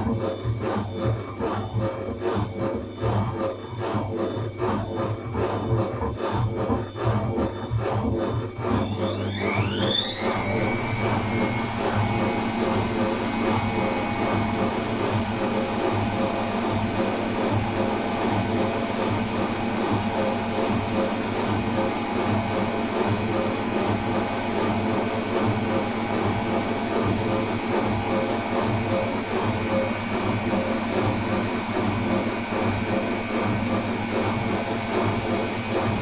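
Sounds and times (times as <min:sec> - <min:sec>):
washing machine spinning: 0:00.0 - 0:36.0.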